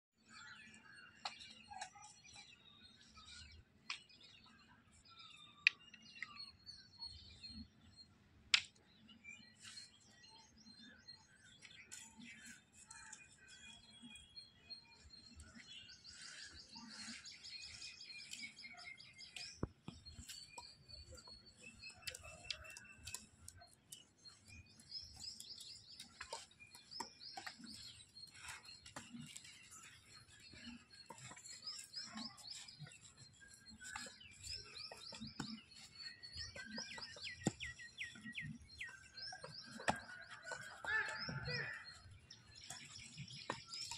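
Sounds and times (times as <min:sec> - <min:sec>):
faint birds twittering: 0:00.2 - 0:43.9.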